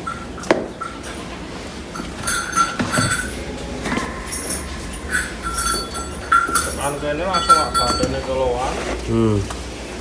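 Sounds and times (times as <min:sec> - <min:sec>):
metal clinking and squealing: 0:00.0 - 0:08.7.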